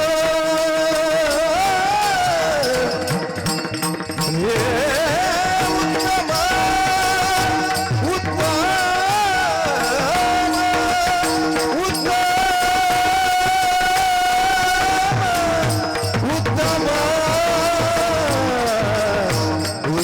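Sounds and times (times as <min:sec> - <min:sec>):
instrumental accompaniment: 0:00.0 - 0:20.0
man singing long held notes: 0:00.0 - 0:20.0.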